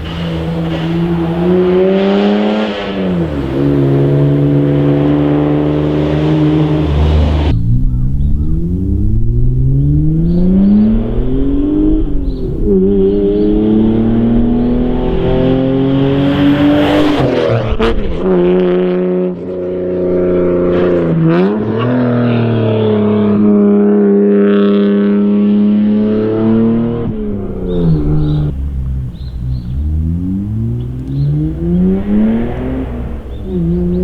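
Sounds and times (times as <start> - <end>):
car engine accelerating through gears: 0.0 - 34.0.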